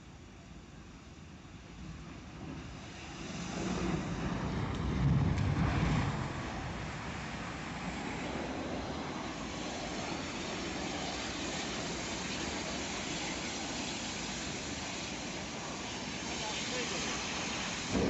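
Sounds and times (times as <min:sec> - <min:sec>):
fire rushing: 0:01.0 - 0:18.0.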